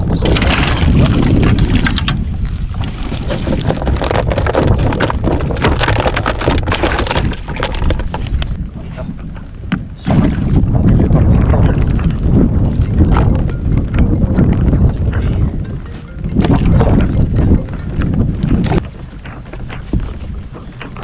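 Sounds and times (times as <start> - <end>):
knocks and clatter: 0.0 - 8.6, 11.5 - 21.0
choppy water splashing: 0.0 - 21.0
wind buffeting microphone: 0.0 - 21.0.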